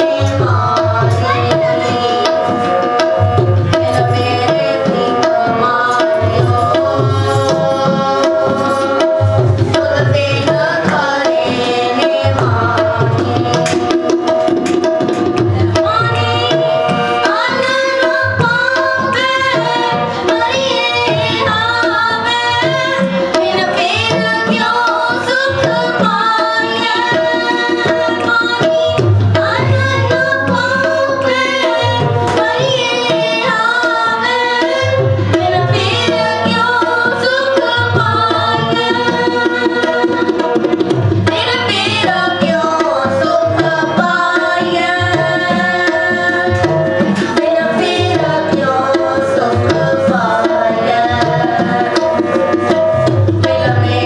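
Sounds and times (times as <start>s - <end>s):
harmonium playing: 0.0s - 54.0s.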